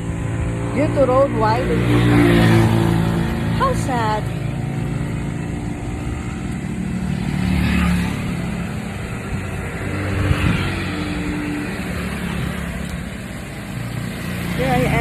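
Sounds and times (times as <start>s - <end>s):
vehicles passing by: 0.0s - 15.0s.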